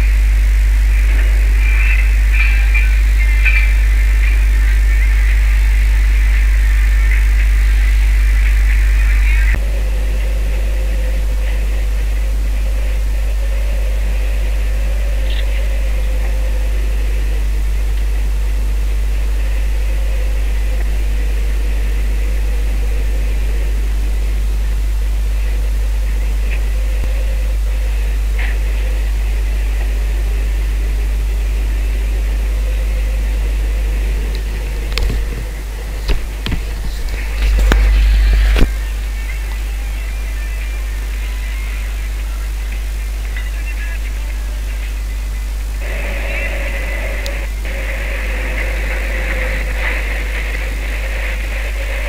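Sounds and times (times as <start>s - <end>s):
boat engine droning: 0.0s - 52.0s
hissing noise: 0.0s - 52.0s.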